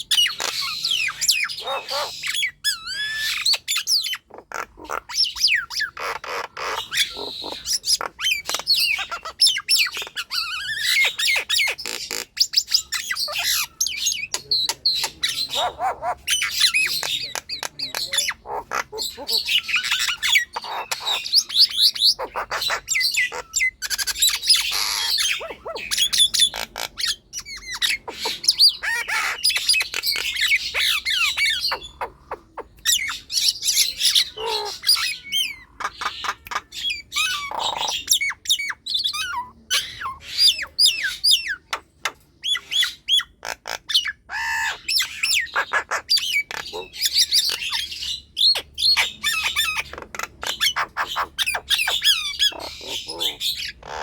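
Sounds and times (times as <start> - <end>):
myna bird calling: 0.0 - 54.0.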